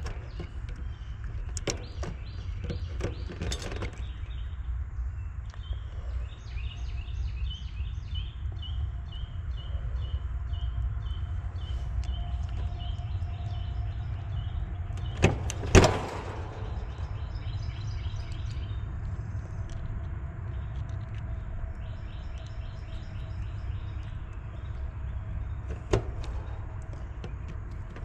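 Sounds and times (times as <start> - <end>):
bird chirps: 0.0 - 28.0
steady low rumble: 0.0 - 28.0.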